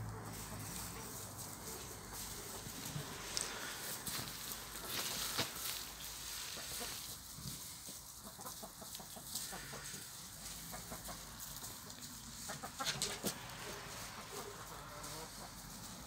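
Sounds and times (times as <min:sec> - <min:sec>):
chickens clucking softly: 0:00.0 - 0:16.0.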